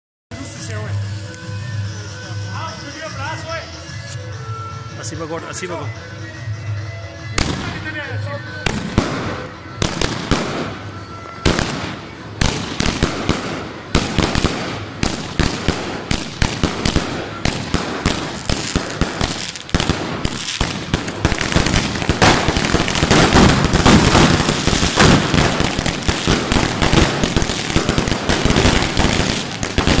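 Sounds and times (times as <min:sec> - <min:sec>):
firecrackers banging and crackling: 0:00.3 - 0:03.6, 0:07.4 - 0:30.0.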